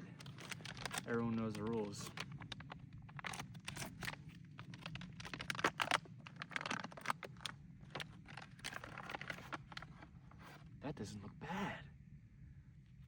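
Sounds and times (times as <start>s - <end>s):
plastic pouch crinkling: 0.0s - 10.6s.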